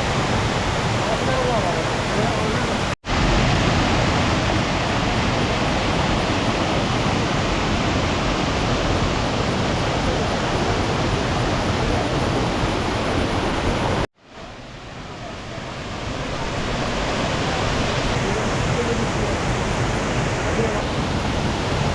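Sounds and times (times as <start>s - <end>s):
waterfall roaring: 0.0s - 21.9s.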